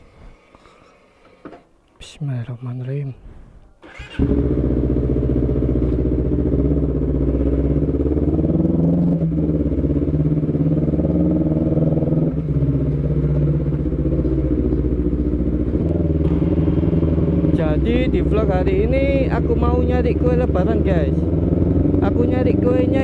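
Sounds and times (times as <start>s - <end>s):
motorcycle engine running: 4.2s - 23.0s.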